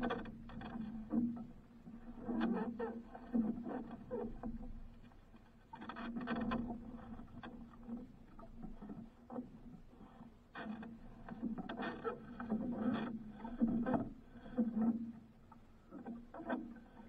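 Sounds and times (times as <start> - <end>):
knocks and rustles against hull: 0.0 - 17.0
water lapping at boat: 0.0 - 17.0.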